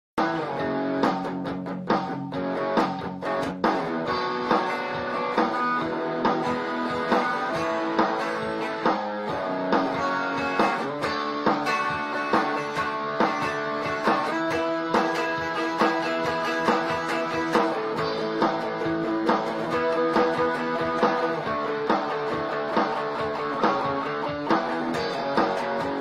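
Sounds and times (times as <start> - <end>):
clean electric guitar chords strummed: 0.2 - 26.0.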